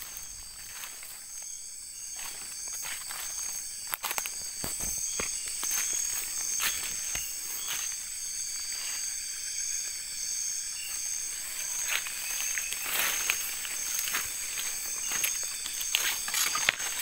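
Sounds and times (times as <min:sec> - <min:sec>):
footsteps in undergrowth: 0:00.0 - 0:17.0
insects trilling: 0:00.0 - 0:17.0.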